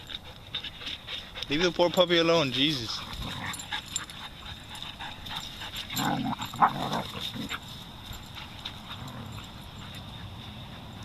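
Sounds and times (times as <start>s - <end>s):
dog vocal noise: 0.0s - 11.0s
dogs play-fighting: 0.0s - 11.0s.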